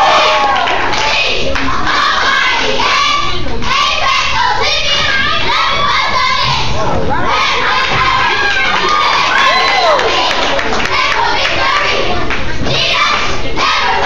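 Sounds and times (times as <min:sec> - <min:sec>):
children shouting and cheering: 0:00.0 - 0:14.0.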